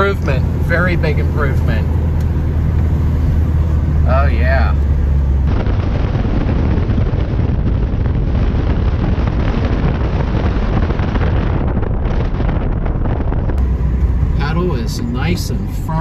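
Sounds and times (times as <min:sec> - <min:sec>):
tyre and road noise: 0:00.0 - 0:16.0
wind buffeting microphone: 0:00.0 - 0:16.0.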